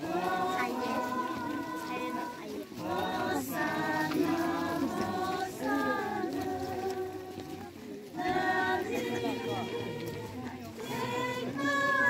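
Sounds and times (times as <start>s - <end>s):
crowd singing a hymn: 0.0s - 12.0s.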